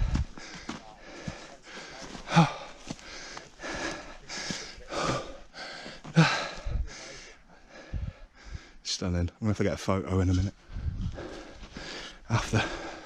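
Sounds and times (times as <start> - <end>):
person breathing hard: 0.0 - 8.8, 10.7 - 13.0.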